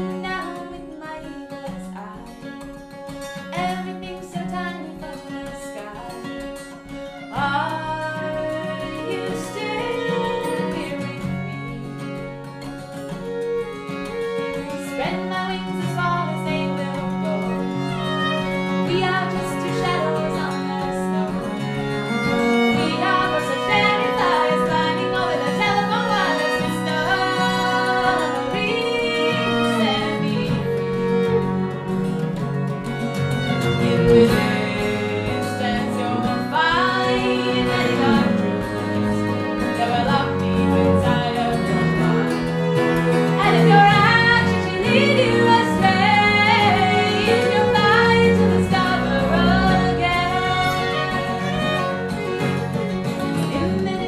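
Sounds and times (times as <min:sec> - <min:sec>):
acoustic guitar: 0:00.0 - 0:54.0
fiddle melody: 0:00.0 - 0:54.0.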